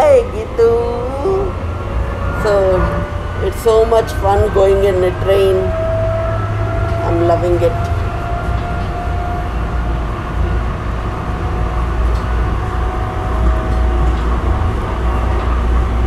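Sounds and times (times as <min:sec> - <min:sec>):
train rumbling at speed: 0:00.0 - 0:16.0.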